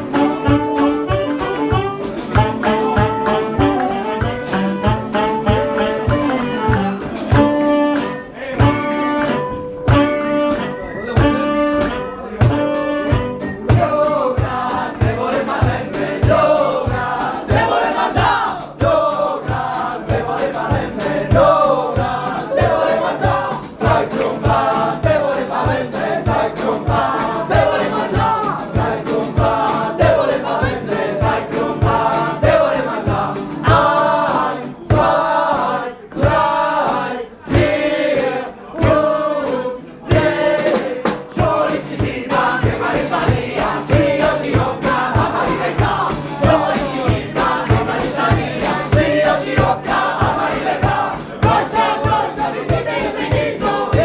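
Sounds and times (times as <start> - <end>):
crowd singing together: 0.0 - 11.1, 12.0 - 54.0
acoustic band playing: 0.0 - 54.0
steady drum beat: 0.0 - 54.0.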